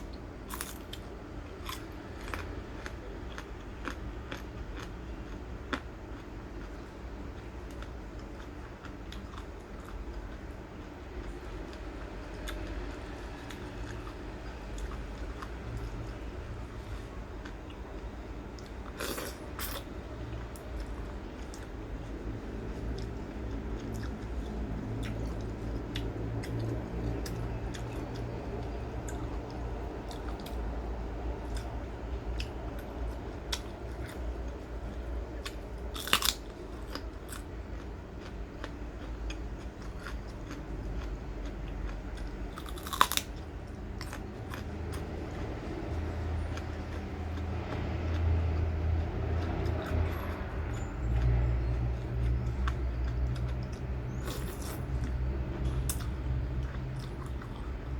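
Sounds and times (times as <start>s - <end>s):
chewing crisp food: 0.0s - 57.9s.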